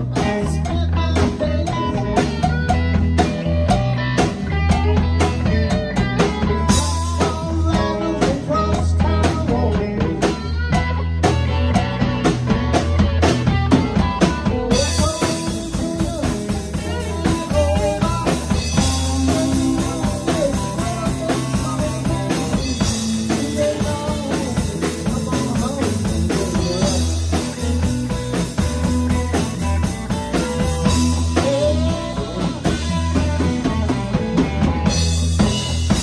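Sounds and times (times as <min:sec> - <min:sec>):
bass guitar: 0:00.0 - 0:36.0
drum kit: 0:00.0 - 0:36.0
electric guitars: 0:00.0 - 0:36.0.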